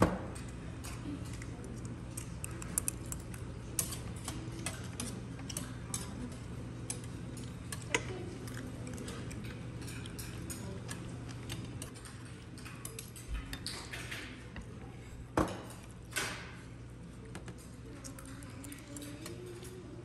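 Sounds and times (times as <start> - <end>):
utensils clinking on steel bowls: 0.3 - 16.8, 17.5 - 20.0.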